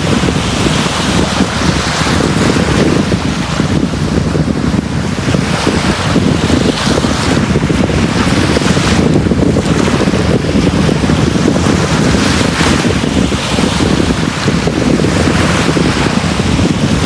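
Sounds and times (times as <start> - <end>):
deep rumble: 0.0 - 17.0
sea waves surging on beach: 0.0 - 17.0.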